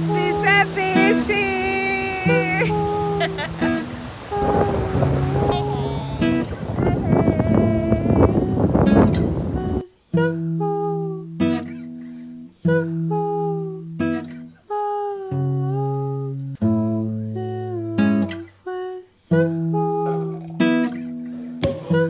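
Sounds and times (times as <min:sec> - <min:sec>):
person singing: 0:00.0 - 0:11.4, 0:12.6 - 0:13.9, 0:14.7 - 0:21.0, 0:21.6 - 0:22.0
strummed acoustic guitar: 0:00.0 - 0:22.0.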